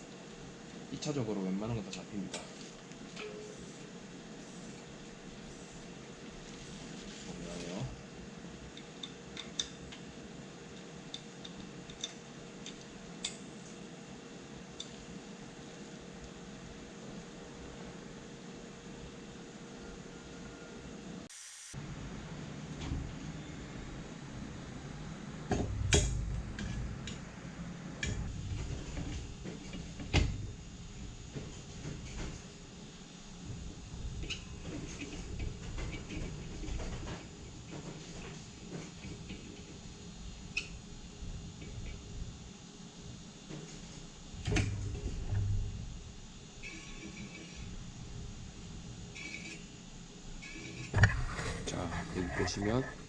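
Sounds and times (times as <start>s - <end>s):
low steady hum: 0.0s - 37.8s, 39.0s - 53.0s.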